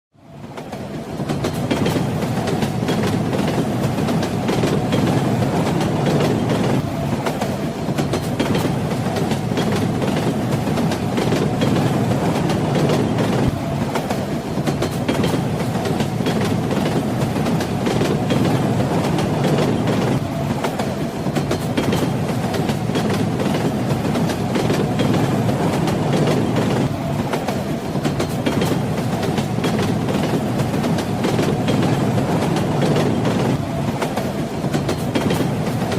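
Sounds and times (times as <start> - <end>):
train wheels rumbling on rails: 0.2 - 35.9.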